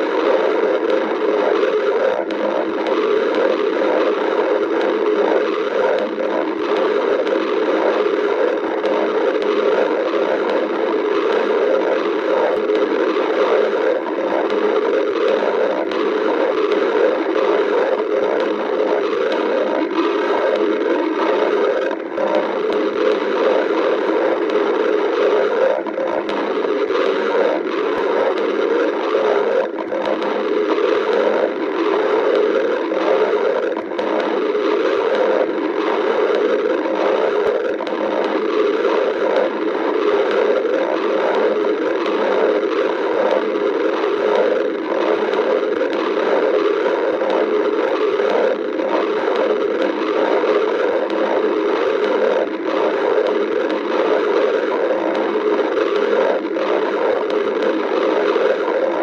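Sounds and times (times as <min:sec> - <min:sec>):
stomach growling: 0:00.0 - 0:59.0.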